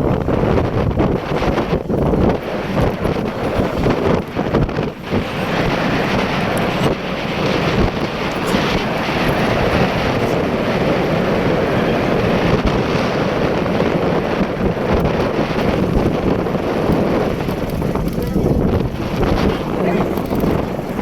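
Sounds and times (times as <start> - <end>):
motorboat engine drone: 0.0 - 21.0
wind buffeting microphone: 0.0 - 21.0.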